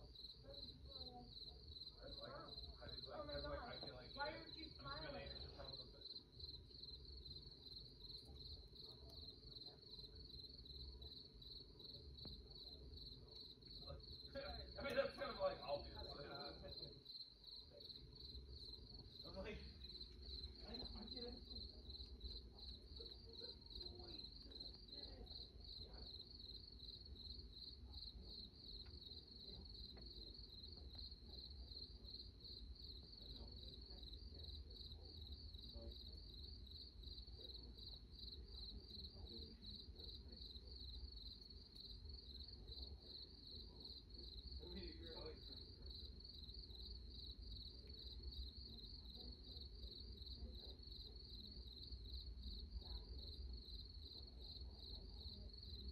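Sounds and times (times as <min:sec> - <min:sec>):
cricket chirping: 0:00.0 - 0:55.9
faint low hum: 0:00.0 - 0:55.9.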